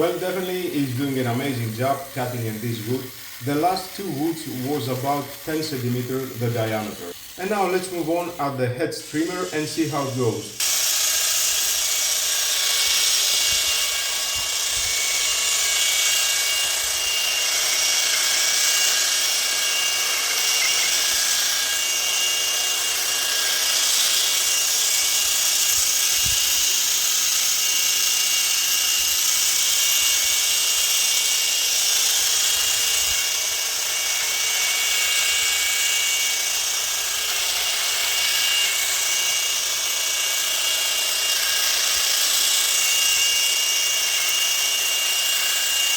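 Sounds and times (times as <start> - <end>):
hedge trimmer running: 0.0 - 45.9.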